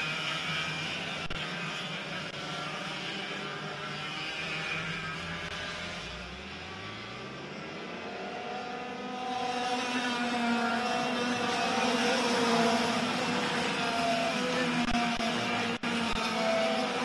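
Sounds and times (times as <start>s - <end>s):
racing kart engines running hard: 0.0s - 17.0s.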